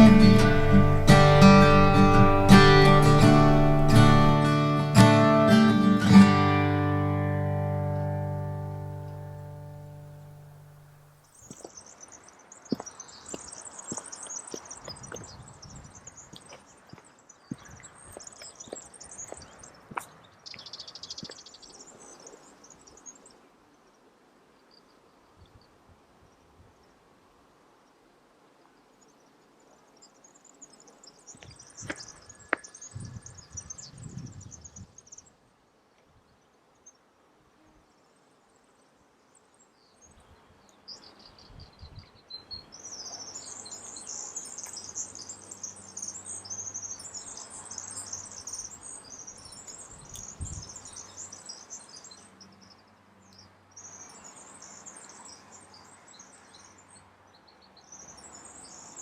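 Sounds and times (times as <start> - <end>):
small birds chirping: 0.0 - 24.0, 29.0 - 35.4, 37.8 - 59.0.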